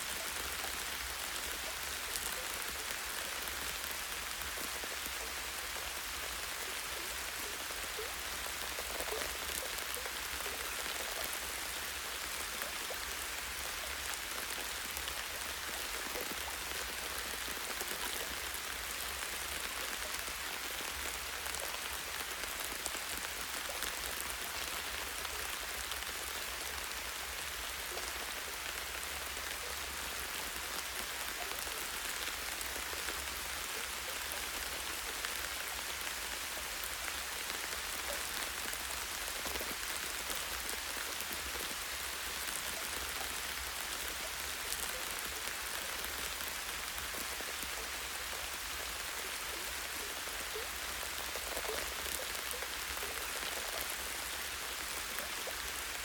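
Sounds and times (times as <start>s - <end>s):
light rain on foliage: 0.0s - 56.0s.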